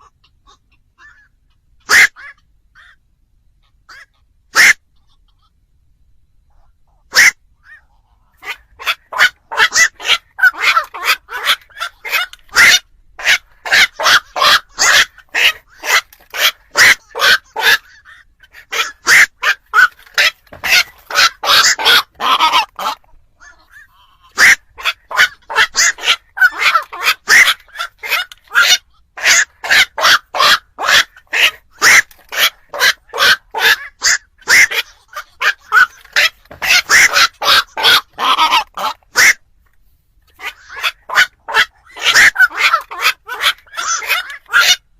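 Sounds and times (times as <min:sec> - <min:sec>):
herons croaking harshly: 0:00.0 - 0:05.6, 0:06.5 - 0:39.5, 0:40.3 - 0:44.9.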